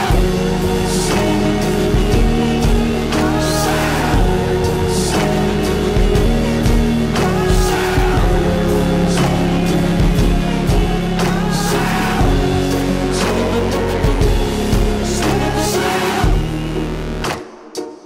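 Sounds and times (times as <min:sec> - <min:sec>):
pop music with steady beat: 0:00.0 - 0:18.0.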